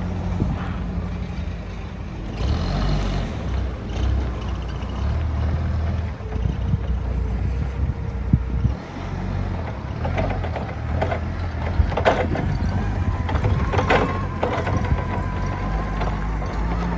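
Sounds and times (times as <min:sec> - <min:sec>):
forklift engine rumble: 0:00.0 - 0:16.9.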